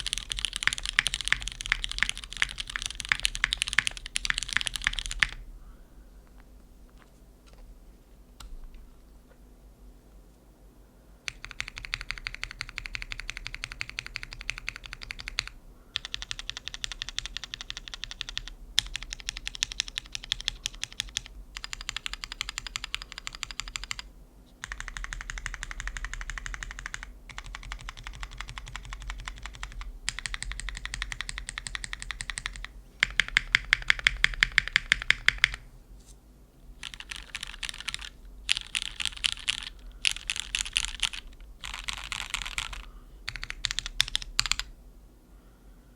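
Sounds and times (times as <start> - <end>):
fast typing on mechanical keyboard: 0.0 - 5.4, 11.3 - 35.6, 36.8 - 44.7.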